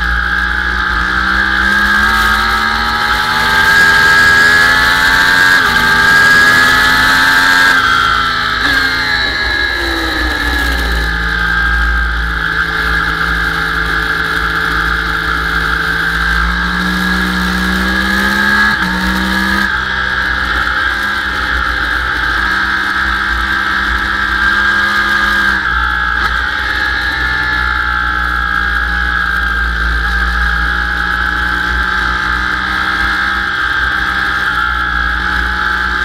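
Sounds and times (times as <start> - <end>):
motorcycle engine at high revs: 0.0 - 36.0.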